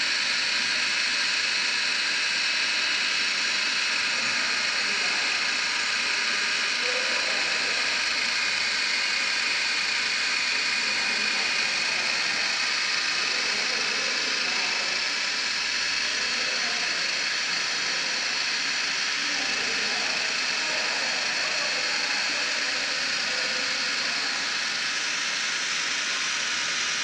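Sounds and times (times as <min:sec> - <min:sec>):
cnc router hissing and whining: 0:00.0 - 0:27.0.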